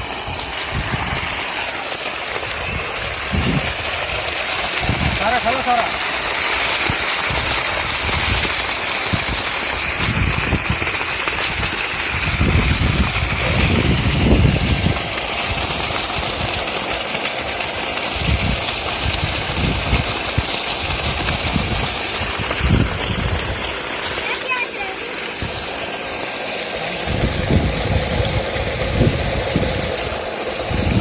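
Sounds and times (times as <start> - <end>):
water gushing from pipe: 0.0 - 31.0
water splashing onto ground: 0.0 - 31.0.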